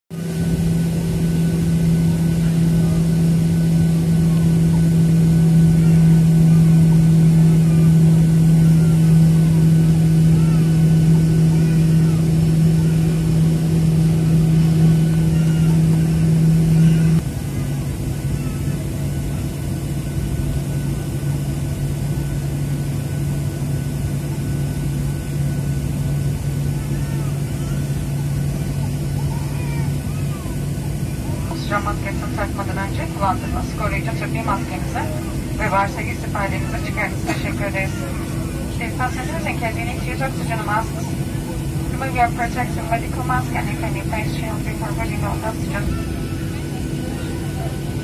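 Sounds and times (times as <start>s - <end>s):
airliner cabin hum: 0.1s - 48.0s
faint voices: 0.2s - 48.0s.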